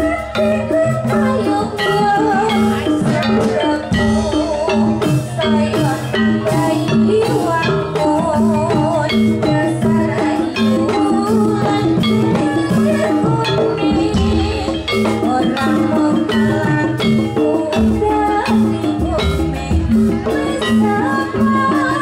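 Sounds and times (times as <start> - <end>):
gamelan dance music: 0.0 - 22.0.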